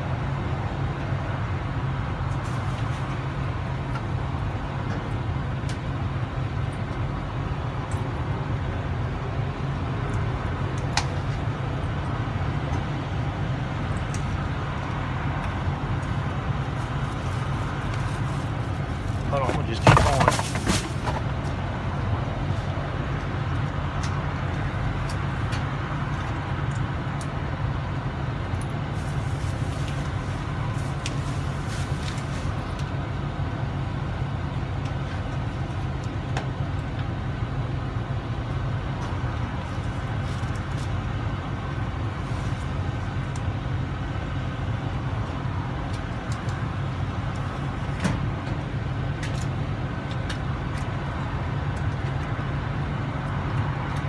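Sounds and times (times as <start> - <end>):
truck engine idling: 0.0 - 54.0.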